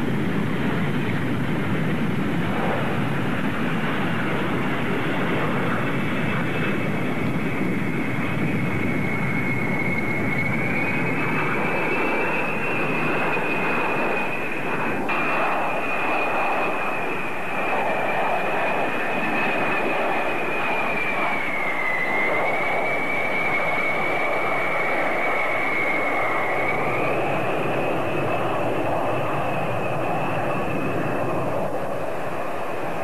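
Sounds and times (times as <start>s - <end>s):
jet engines passing overhead: 0.0s - 33.0s.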